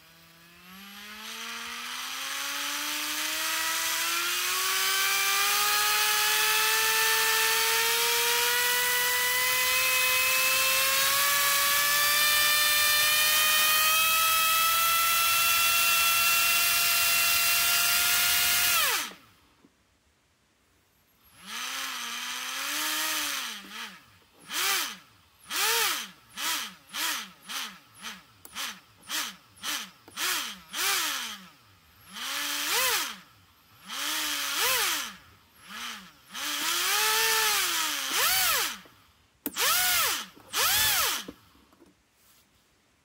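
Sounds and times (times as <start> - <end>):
small motor whining: 0.0 - 19.4, 21.2 - 41.6.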